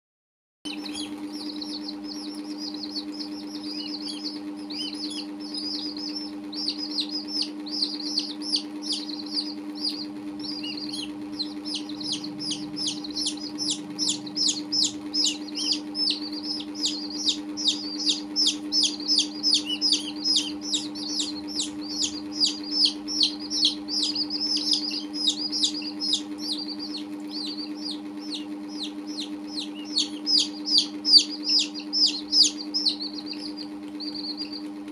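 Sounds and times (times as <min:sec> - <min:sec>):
baby chicks peeping: 0:00.7 - 0:34.9
steady low hum: 0:00.7 - 0:34.9.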